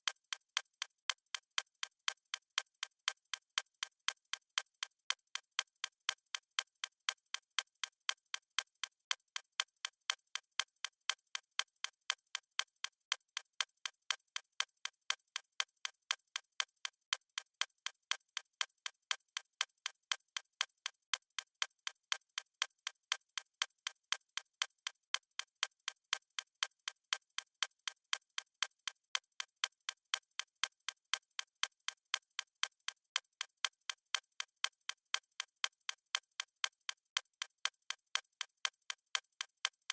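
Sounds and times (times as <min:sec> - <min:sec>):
stopwatch ticking: 0:00.0 - 0:39.9.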